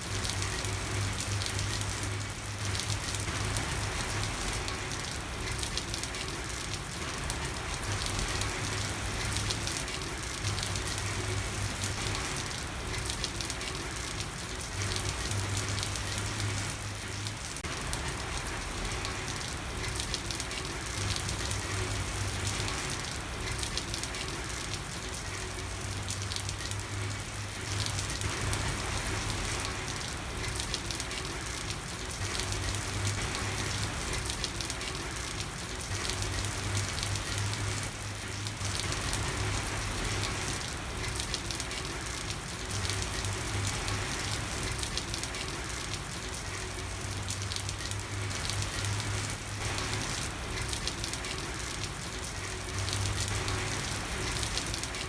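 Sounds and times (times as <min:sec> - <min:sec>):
rain falling on a street: 0:00.0 - 0:55.0.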